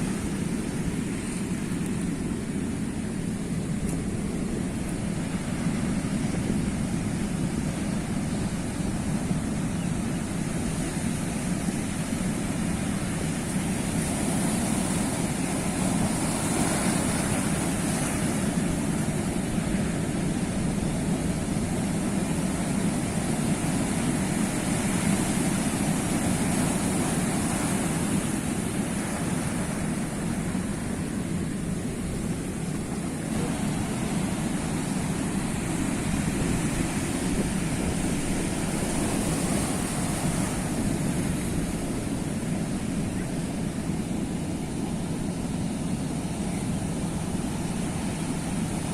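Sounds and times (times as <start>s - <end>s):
sea waves washing: 0.0s - 48.9s.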